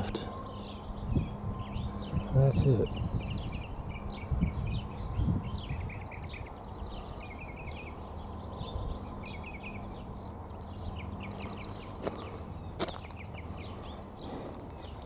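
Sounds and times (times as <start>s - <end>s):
low rumble of wind: 0.0s - 15.0s
small birds chirping: 0.0s - 15.0s.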